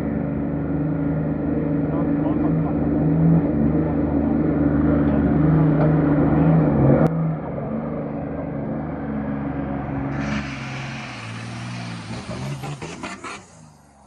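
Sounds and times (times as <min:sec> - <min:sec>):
vehicle engine running under load: 0:00.0 - 0:14.0.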